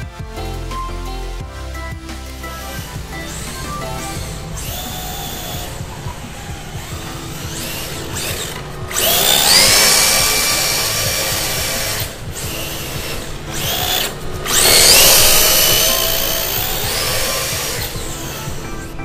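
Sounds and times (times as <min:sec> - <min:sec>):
electric motor whining: 0:02.2 - 0:19.0.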